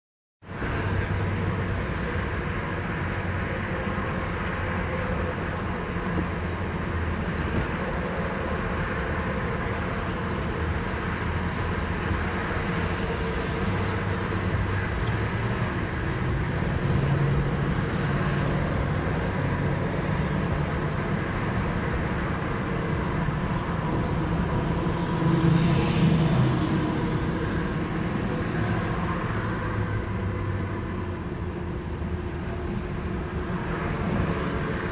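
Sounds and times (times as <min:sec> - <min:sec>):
low engine hum: 0:00.4 - 0:34.9
tyre and road noise: 0:00.4 - 0:34.9.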